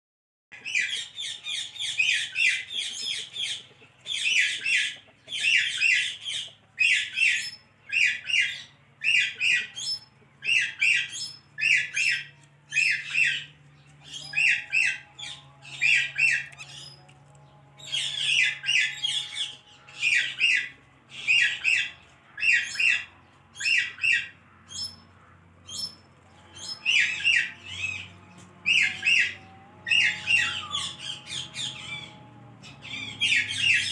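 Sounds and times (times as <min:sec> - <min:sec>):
parrot calling: 0:00.6 - 0:13.5, 0:14.1 - 0:17.0, 0:17.8 - 0:33.9.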